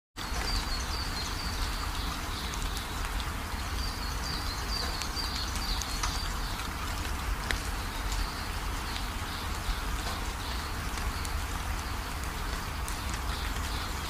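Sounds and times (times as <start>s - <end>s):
rain on a metal roof: 0.2s - 14.0s
raindrop ticks: 0.2s - 14.0s
water pouring and splashing: 0.2s - 14.0s.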